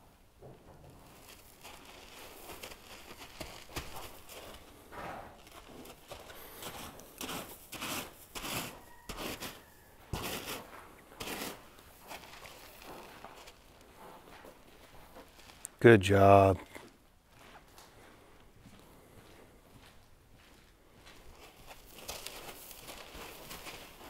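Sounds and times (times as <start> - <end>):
rustling and scuffing: 0.6 - 15.8, 16.8 - 24.0.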